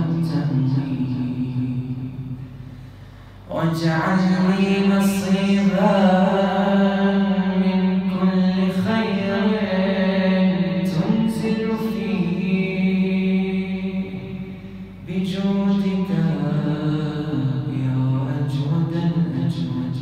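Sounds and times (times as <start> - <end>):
man chanting: 0.0 - 2.6, 3.5 - 20.0.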